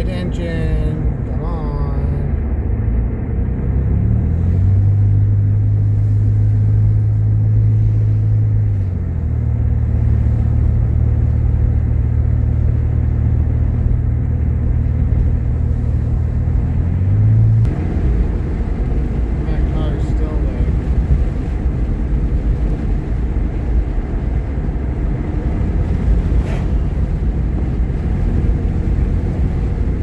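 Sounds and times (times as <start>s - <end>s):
road noise: 0.0s - 30.0s
vehicle engine droning: 0.0s - 30.0s.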